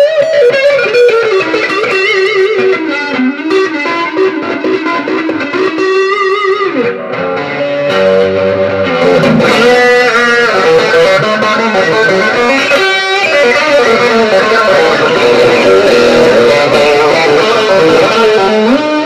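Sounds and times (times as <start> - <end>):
electric guitar notes and chords: 0.0 - 19.0.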